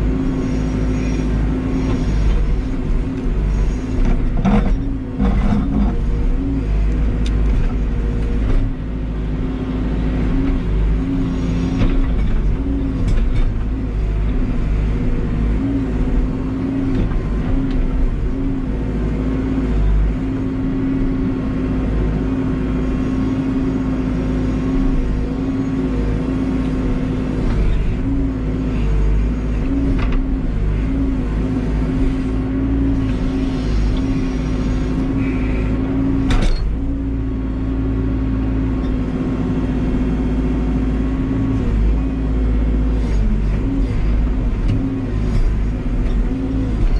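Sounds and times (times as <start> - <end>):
backhoe diesel engine running: 0.0 - 46.9.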